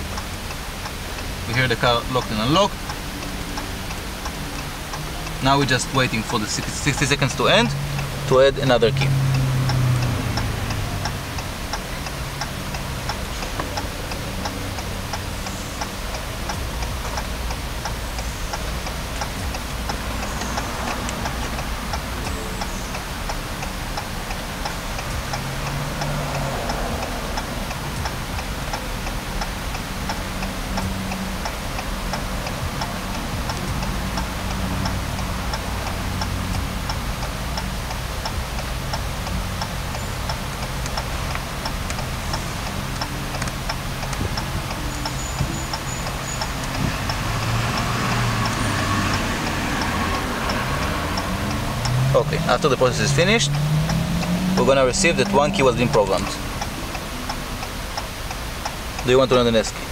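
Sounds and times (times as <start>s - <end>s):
hazard flasher ticking: 0.0s - 59.8s.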